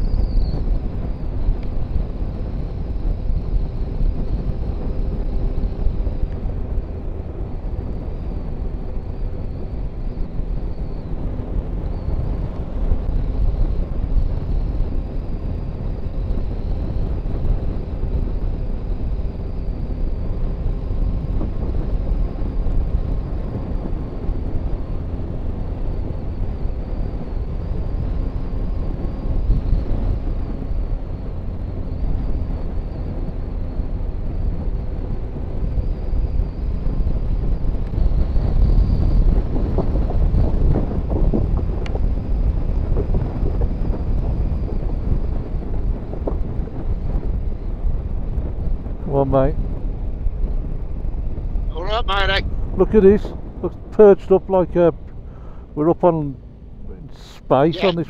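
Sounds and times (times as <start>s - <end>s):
motorcycle engine cruising: 0.0s - 51.8s
wind on microphone: 0.0s - 58.0s.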